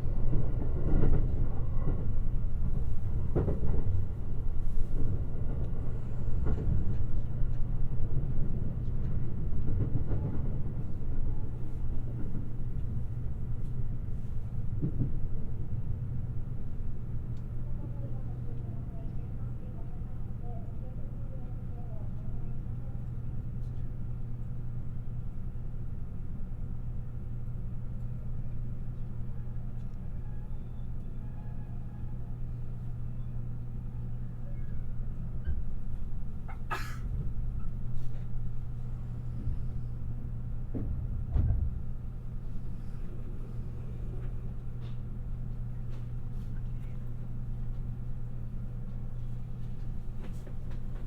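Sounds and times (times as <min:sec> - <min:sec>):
train rumbling inside carriage: 0:00.0 - 0:51.0.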